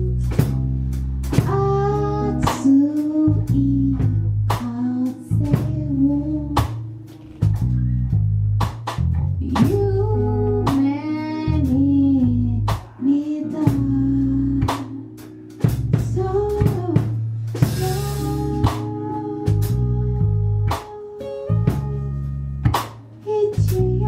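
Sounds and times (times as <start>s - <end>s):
band with guitar bass and drums: 0.0s - 24.0s
sung melody: 0.0s - 24.0s.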